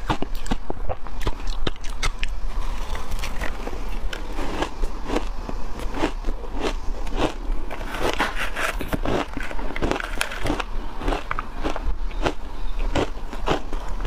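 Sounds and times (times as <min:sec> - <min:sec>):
shaved ice crunching when chewed: 0:00.0 - 0:14.0.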